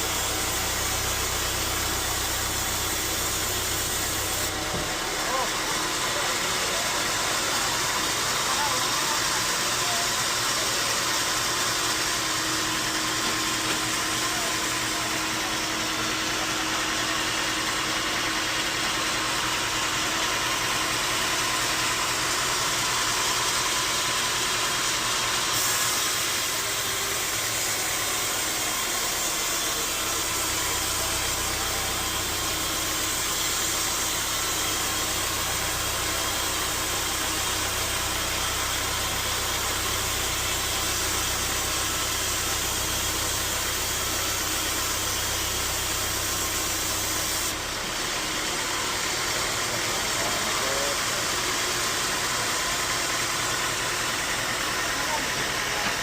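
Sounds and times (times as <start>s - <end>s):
bandsaw sawmill running: 0.0s - 56.0s.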